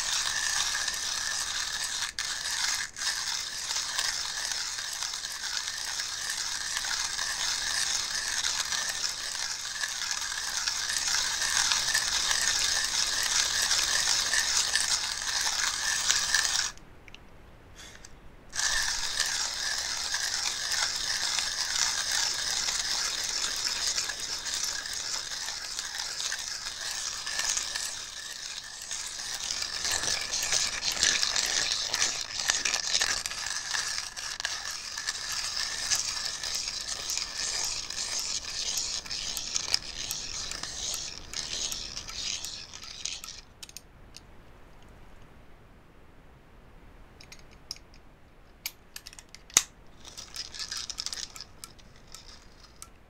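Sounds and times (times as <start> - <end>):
coffee grinder grinding beans: 0.0 - 16.8, 18.6 - 43.4, 50.0 - 52.8.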